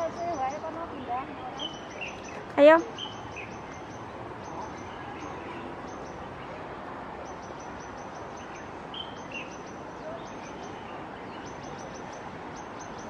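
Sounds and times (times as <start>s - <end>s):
bird chirps: 0.0s - 6.3s, 7.3s - 13.0s.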